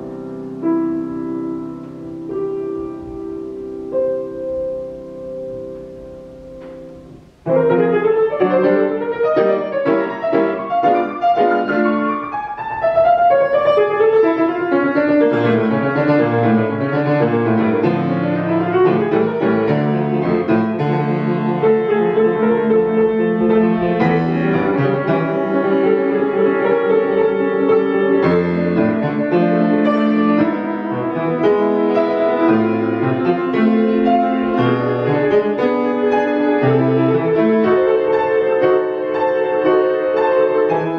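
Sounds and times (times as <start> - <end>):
grand piano classical piece: 0.0 - 40.9.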